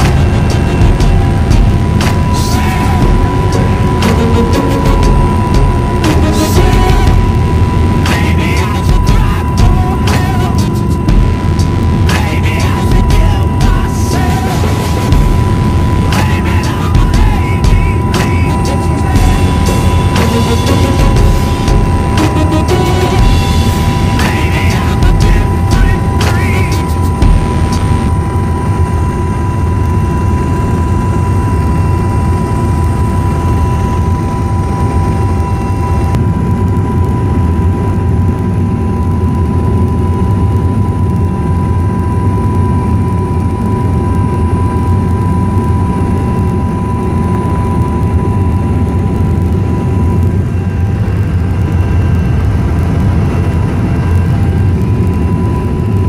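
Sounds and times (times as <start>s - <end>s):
helicopter cabin drone and whine: 0.0s - 56.0s.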